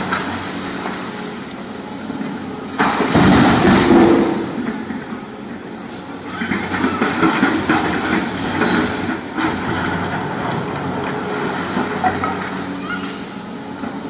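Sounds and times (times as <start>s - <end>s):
excavator diesel engine under load: 0.0s - 14.0s.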